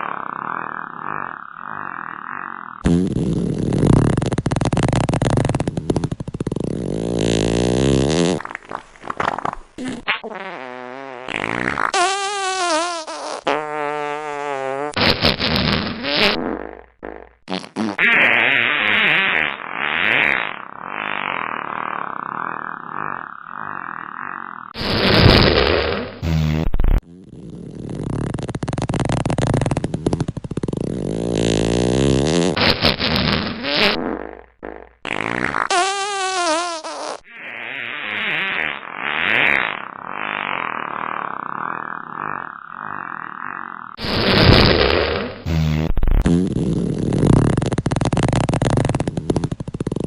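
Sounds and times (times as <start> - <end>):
fart sound effects: 0.0 - 50.0.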